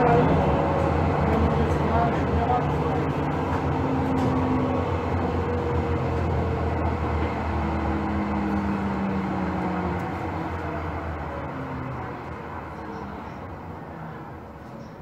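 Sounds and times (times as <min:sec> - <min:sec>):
whining tones: 0:00.0 - 0:13.5
light-rail car motor hum: 0:00.0 - 0:15.0.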